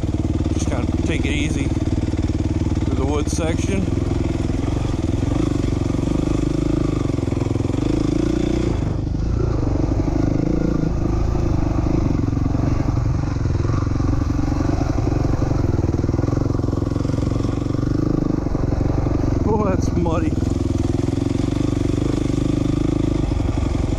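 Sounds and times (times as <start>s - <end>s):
off-road motorcycle engine running: 0.0s - 23.9s.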